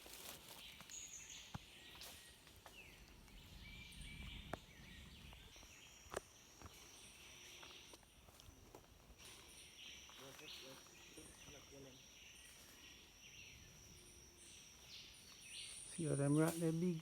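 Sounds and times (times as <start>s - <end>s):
insects humming: 0.0s - 17.0s
bird chirps: 0.1s - 17.0s.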